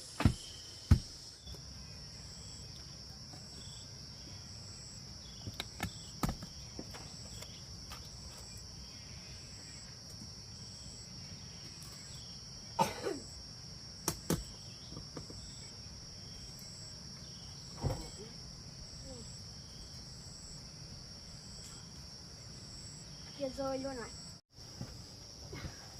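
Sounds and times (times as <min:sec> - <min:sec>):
insects chirring: 0:00.0 - 0:25.9
pulsing insect trill: 0:00.0 - 0:25.9.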